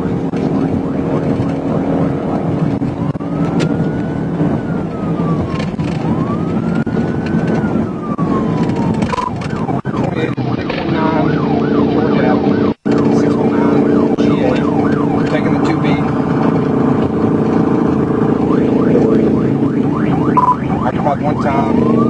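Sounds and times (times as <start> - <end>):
car engine and road noise: 0.0 - 22.0
police siren wailing and yelping: 0.0 - 22.0.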